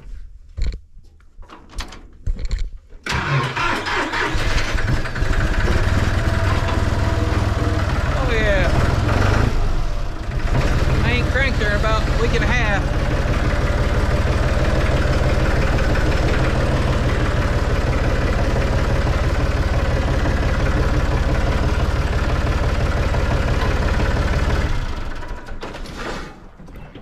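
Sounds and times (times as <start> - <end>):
tractor engine running: 1.5 - 27.0.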